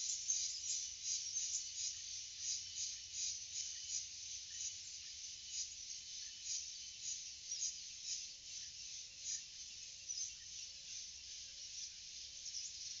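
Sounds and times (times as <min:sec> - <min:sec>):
insect chirping and buzzing: 0:00.0 - 0:13.0.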